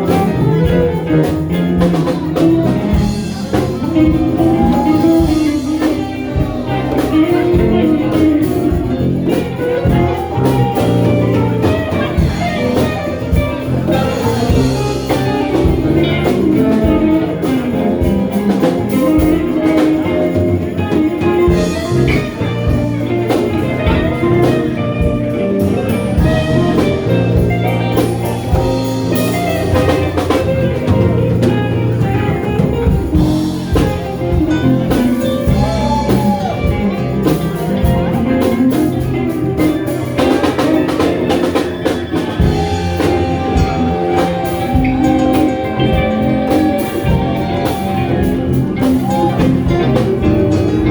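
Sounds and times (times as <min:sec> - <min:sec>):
blues band playing: 0:00.0 - 0:50.9.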